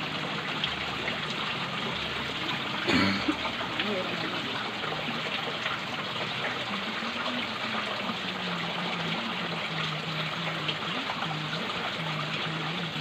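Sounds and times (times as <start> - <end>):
stream water trickling over rocks: 0.0 - 13.0.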